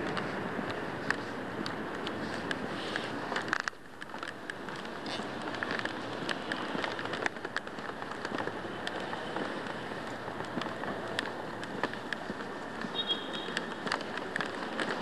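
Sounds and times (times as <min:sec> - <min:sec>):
crackling clicks: 0:00.0 - 0:15.0
traffic noise: 0:00.0 - 0:15.0.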